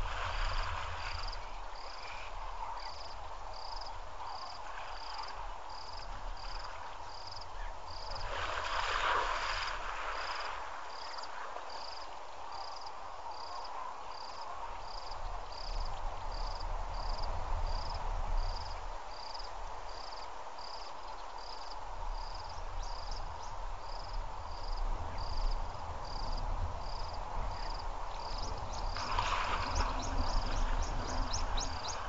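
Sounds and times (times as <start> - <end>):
insect chirping: 0.0 - 32.0.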